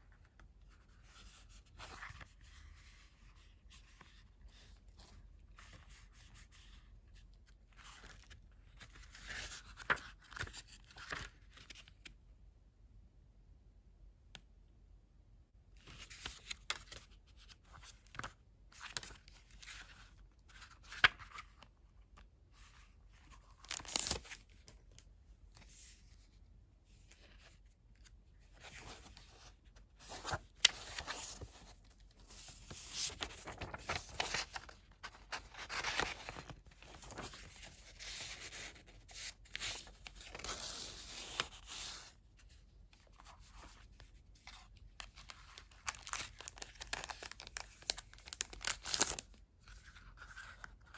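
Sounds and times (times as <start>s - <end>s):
pages turning and paper rustling: 0.2s - 12.1s, 15.8s - 26.4s, 27.0s - 50.9s.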